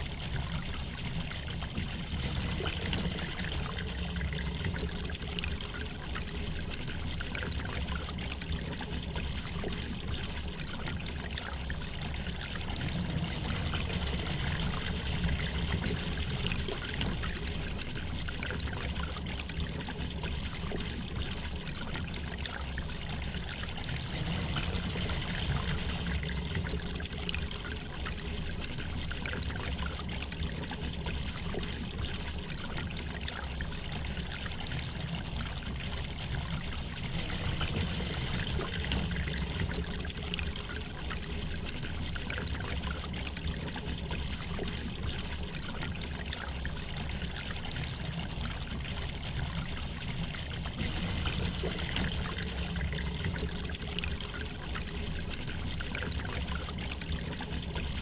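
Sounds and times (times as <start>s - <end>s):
low water rumble: 0.0s - 58.0s
water trickling splashes: 0.0s - 58.0s.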